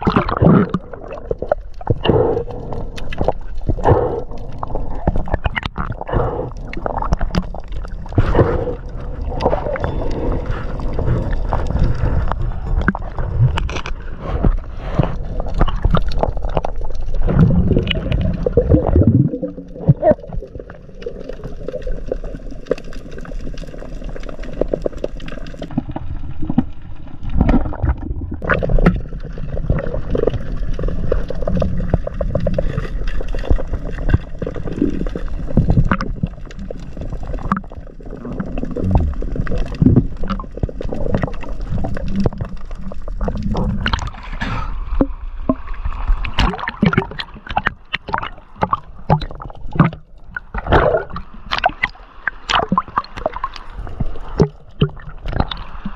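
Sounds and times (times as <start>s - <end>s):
muffled underwater gurgling: 0.0s - 55.9s.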